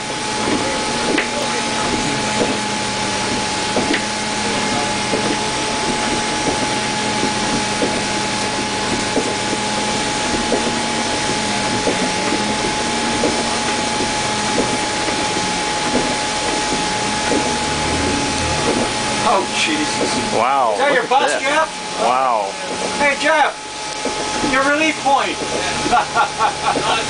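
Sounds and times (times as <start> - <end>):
bus engine drone: 0.0 - 27.0
constant whine: 0.0 - 27.0.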